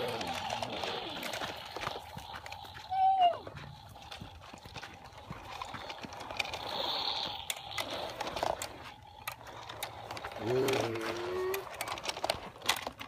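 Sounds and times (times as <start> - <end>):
toy wheels crunching over dirt: 0.0 - 13.0.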